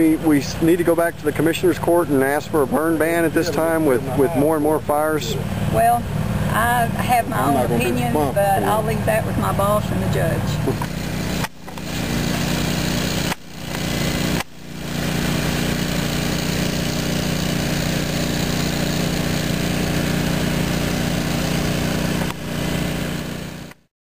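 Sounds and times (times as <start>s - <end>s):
fire engine pump motor droning: 0.0s - 23.8s.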